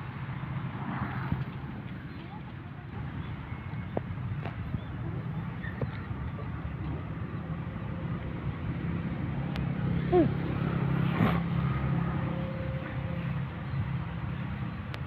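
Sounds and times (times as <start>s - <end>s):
diesel locomotive engine humming: 0.0s - 15.0s.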